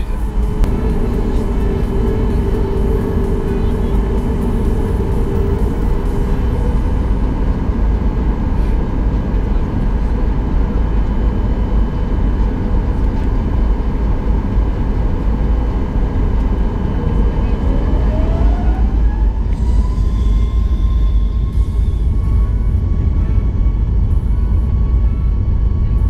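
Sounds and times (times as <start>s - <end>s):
faint high whine: 0.0s - 26.0s
jet engine rumble in cabin: 0.0s - 26.0s.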